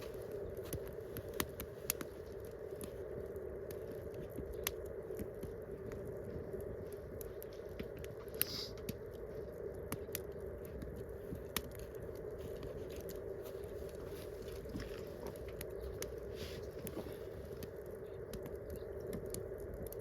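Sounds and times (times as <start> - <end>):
campfire crackling: 0.0 - 20.0
steady hum: 0.0 - 20.0.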